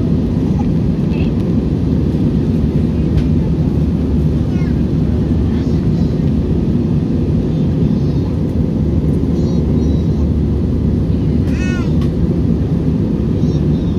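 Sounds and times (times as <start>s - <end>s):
airliner cabin rumble: 0.0s - 13.9s.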